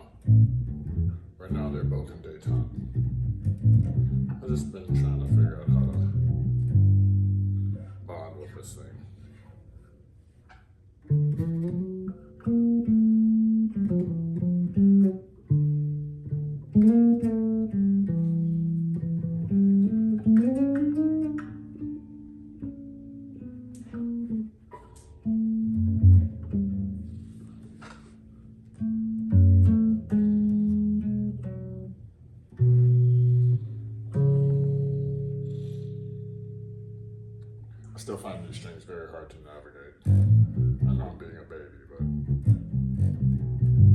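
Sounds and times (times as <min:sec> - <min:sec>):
electric bass plucked notes: 0:00.0 - 0:09.3, 0:11.0 - 0:38.8, 0:39.9 - 0:43.9.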